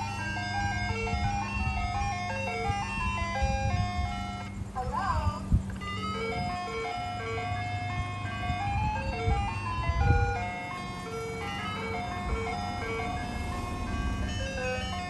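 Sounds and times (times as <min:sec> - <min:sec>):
ice cream truck chime music: 0:00.0 - 0:15.0.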